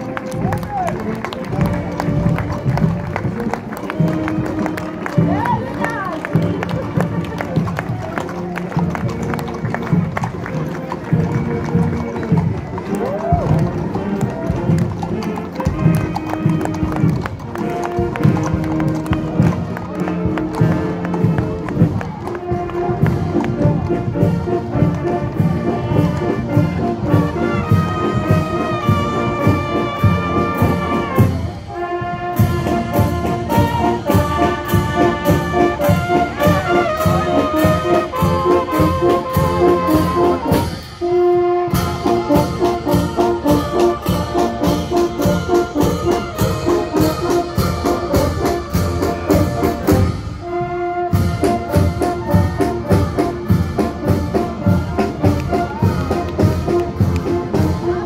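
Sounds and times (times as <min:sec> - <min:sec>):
brass band playing march: 0:00.0 - 0:58.0.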